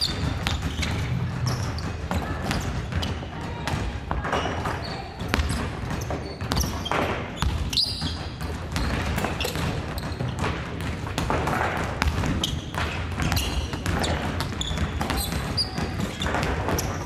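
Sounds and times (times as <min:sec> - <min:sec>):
basketballs bouncing on wooden floor: 0:00.0 - 0:17.0.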